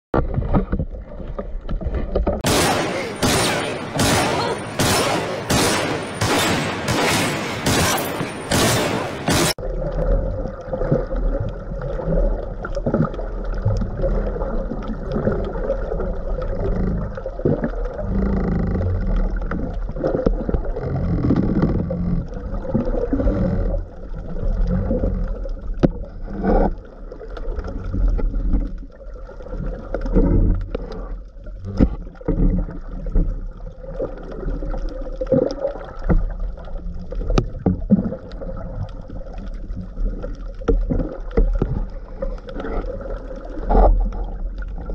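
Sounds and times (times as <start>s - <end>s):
underwater rush of moving water: 0.2s - 44.9s.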